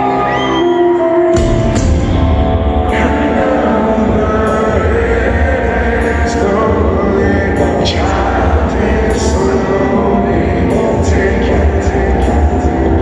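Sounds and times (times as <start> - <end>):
heavy rock band playing: 1.3 - 13.0.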